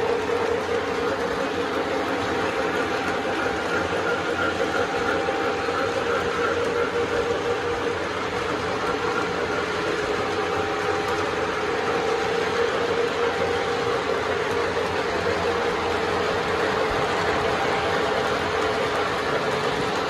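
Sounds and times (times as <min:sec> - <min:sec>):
model train motors whirring: 0:00.0 - 0:20.0.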